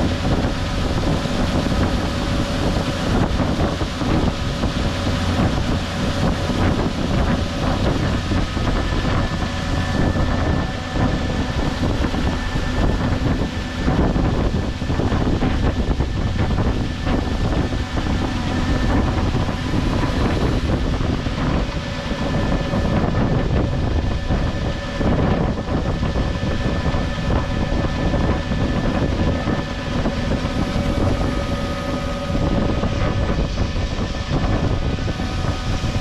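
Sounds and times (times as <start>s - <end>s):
wind noise: 0.0s - 36.0s.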